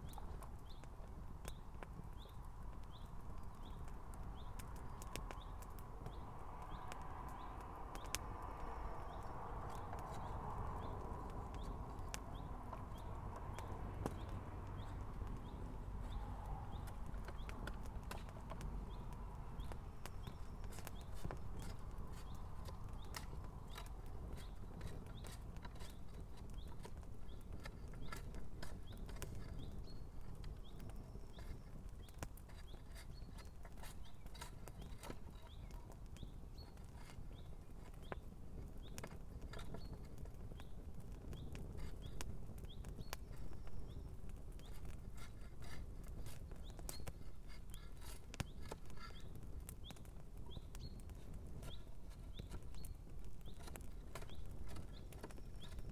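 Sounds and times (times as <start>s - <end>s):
campfire crackling and popping: 0.0s - 55.9s.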